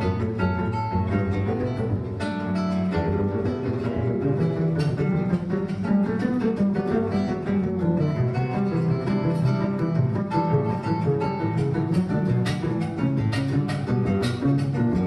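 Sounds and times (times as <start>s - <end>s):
double bass pizzicato: 0.0s - 15.0s
plucked acoustic guitar: 0.0s - 15.0s.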